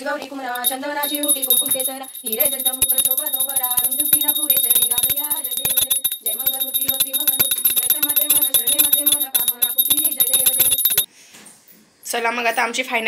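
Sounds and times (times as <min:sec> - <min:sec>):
bell ringing: 0:00.6 - 0:11.1.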